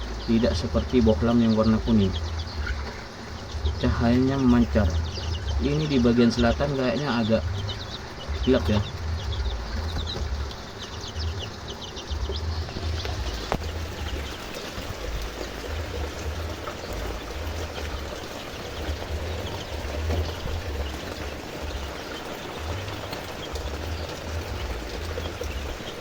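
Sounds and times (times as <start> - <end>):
chicks peeping: 0.0 - 26.0
low rumble on microphone: 0.0 - 26.0
rain hissing: 0.0 - 26.0.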